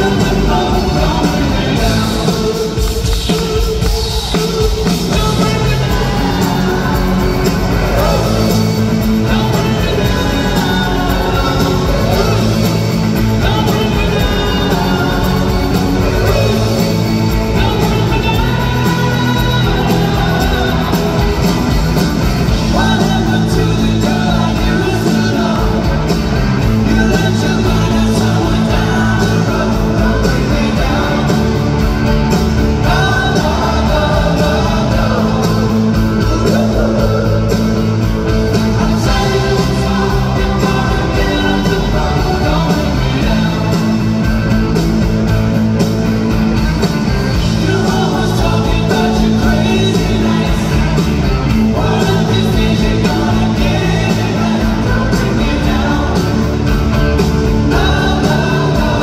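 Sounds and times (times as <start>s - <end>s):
backing singers: 0.0s - 59.0s
bass guitar: 0.0s - 59.0s
drums: 0.0s - 59.0s
electric guitars: 0.0s - 59.0s
keyboards: 0.0s - 59.0s
lead vocal singing: 0.0s - 59.0s.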